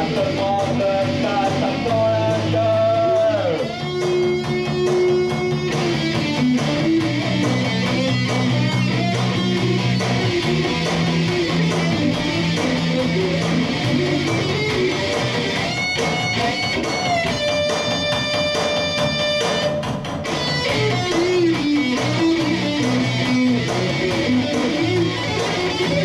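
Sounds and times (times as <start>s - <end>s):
bass guitar: 0.0s - 26.0s
electric guitar lead: 0.0s - 26.0s.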